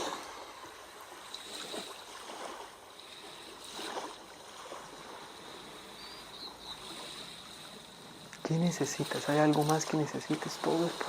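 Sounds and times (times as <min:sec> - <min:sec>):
sea waves washing ashore: 0:00.0 - 0:11.0.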